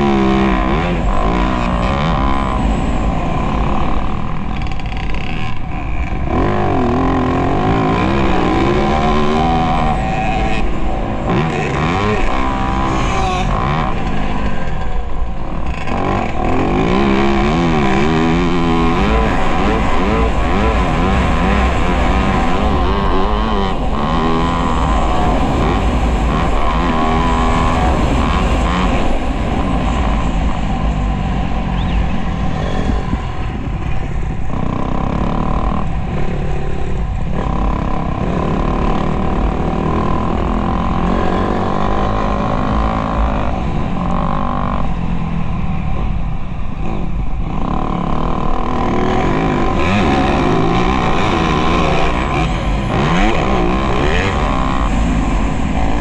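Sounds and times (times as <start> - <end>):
motocross bike engine revving: 0.0 - 56.0
wind rumble on microphone: 0.0 - 56.0.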